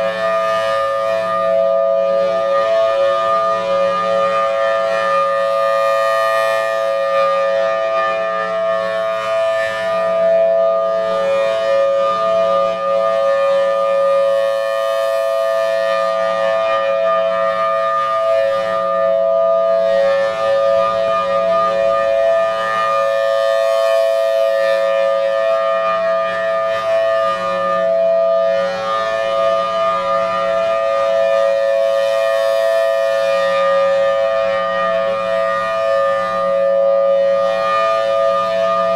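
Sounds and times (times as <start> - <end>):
rotating dual-tone warning siren: 0.0 - 38.9.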